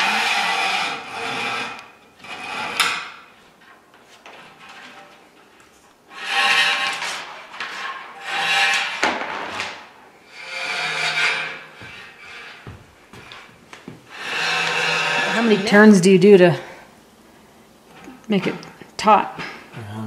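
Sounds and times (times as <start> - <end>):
steel cable scraping through posts: 0.0 - 16.5.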